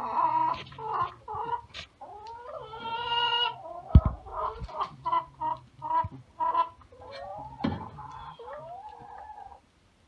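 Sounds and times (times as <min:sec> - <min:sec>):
hens clucking: 0:00.0 - 0:09.7.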